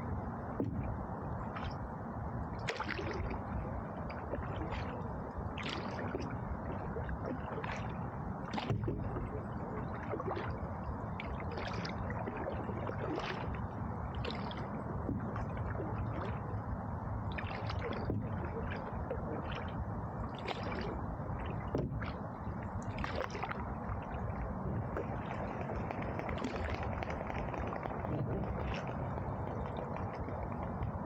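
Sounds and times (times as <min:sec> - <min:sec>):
canoe paddle strokes in water: 0:04.2 - 0:16.6, 0:17.3 - 0:31.0.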